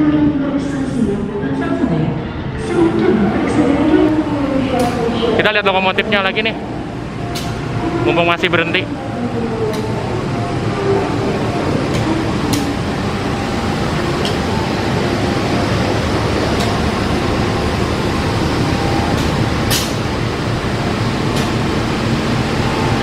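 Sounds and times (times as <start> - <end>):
locomotive engine idling: 3.1 - 23.0.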